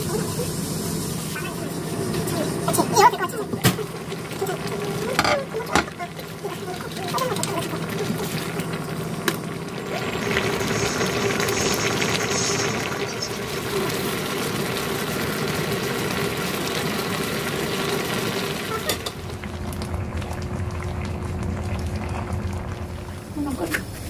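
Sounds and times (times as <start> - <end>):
sauce bubbling and sizzling: 0.0 - 24.0.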